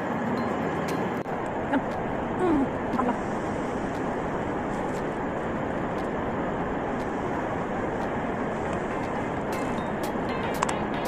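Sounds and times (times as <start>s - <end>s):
station hall background rumble: 0.0s - 11.0s.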